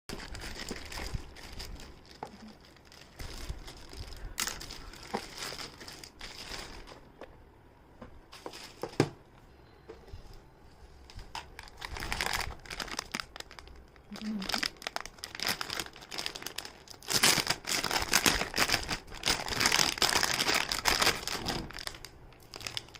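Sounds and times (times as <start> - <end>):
packaging crinkling and tearing: 0.1 - 7.2, 11.2 - 22.9.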